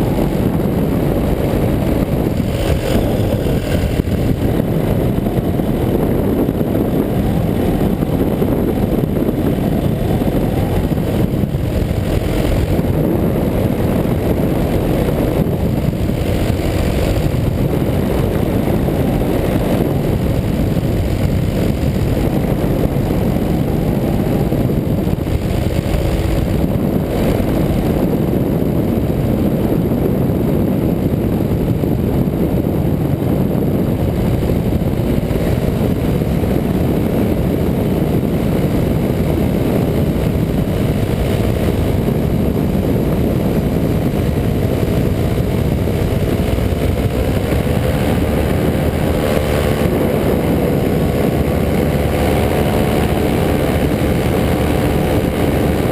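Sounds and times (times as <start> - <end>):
paramotor engine and propeller droning: 0.0 - 55.9.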